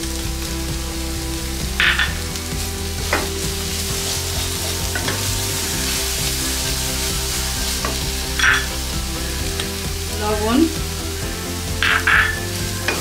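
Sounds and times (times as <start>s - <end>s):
masala sizzling in oil: 0.0s - 13.0s.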